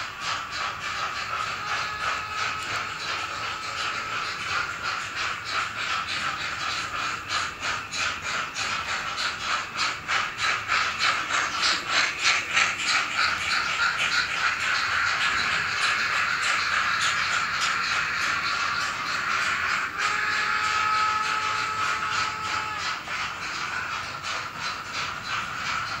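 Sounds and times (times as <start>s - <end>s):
model train motor whine: 0.0s - 26.0s
rhythmic ticking of train: 0.0s - 26.0s.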